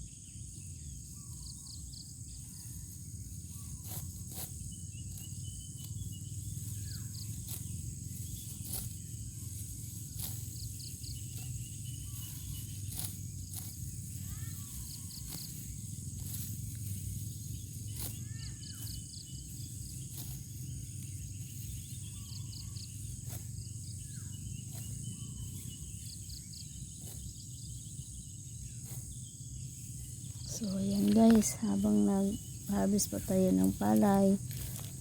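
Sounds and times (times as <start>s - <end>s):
high insect drone: 0.0s - 35.0s
short insect chirps: 0.0s - 35.0s
bird calls: 0.8s - 35.0s.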